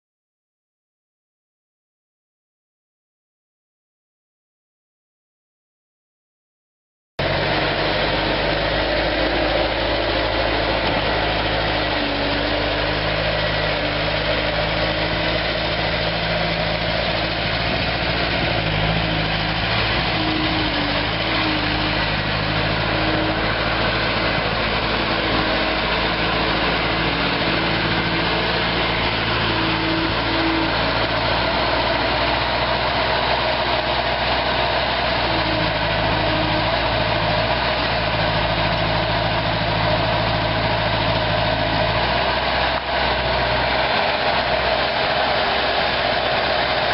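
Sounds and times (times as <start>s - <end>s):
diesel engine idling: 7.2s - 46.9s.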